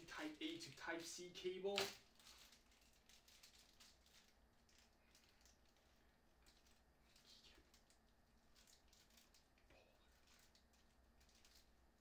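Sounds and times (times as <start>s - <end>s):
plastic packaging rustling: 0.0s - 12.0s.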